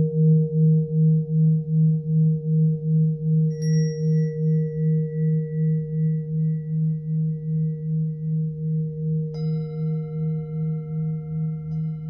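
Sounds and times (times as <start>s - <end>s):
deep singing bowl ringing: 0.0s - 12.0s.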